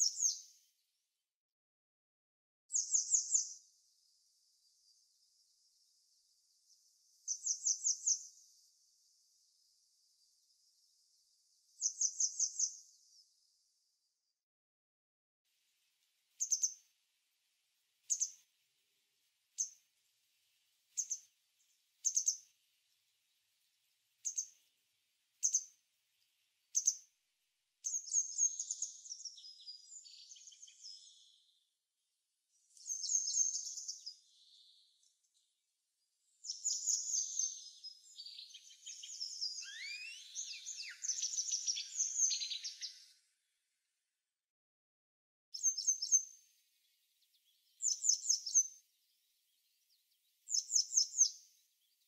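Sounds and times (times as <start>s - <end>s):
songbirds twittering: 0.0s - 0.6s, 2.7s - 13.7s, 15.8s - 17.0s, 18.0s - 31.8s, 32.5s - 43.3s, 45.6s - 52.0s.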